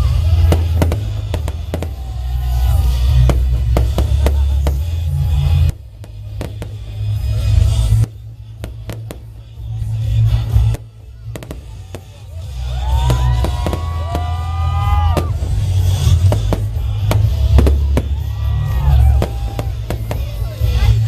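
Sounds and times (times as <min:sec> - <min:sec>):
fireworks bangs and cracks: 0:00.0 - 0:21.0
loud music with strong bass: 0:00.0 - 0:21.0.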